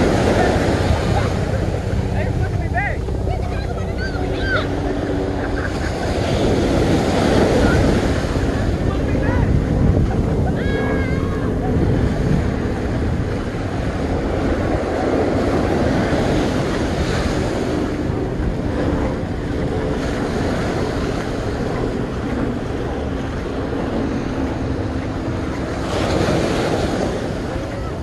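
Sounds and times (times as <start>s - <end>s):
surf washing on sandy beach: 0.0s - 28.0s
wind buffeting microphone: 0.0s - 28.0s.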